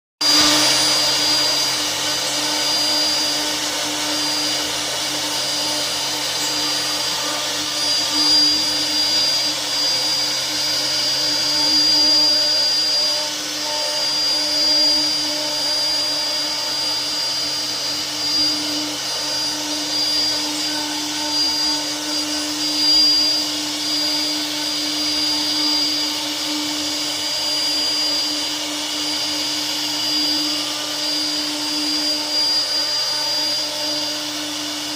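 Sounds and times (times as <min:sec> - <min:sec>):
router spindle whining: 0:00.2 - 0:34.9.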